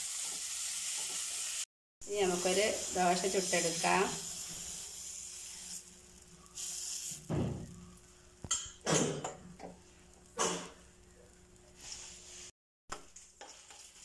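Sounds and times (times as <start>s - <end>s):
batter sizzling on a griddle: 0.0s - 8.5s, 9.3s - 12.6s, 13.2s - 14.0s.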